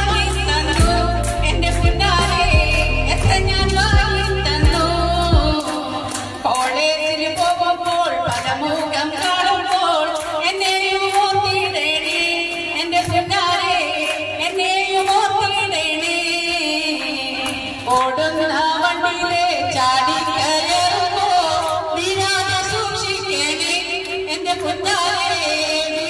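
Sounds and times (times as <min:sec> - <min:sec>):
music with singing voices: 0:00.0 - 0:26.0.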